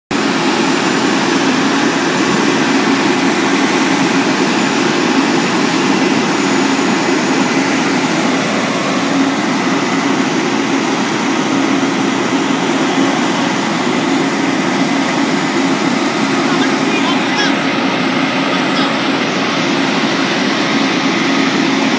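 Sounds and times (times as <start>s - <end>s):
truck engine and hydraulics droning: 0.1s - 21.9s.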